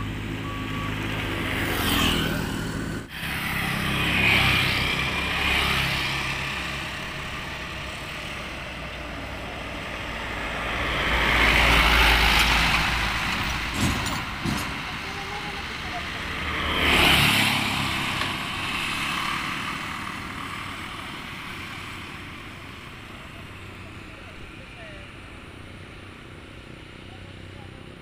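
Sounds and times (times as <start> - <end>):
engine running steadily: 0.0 - 28.0
vehicles passing by: 0.0 - 28.0.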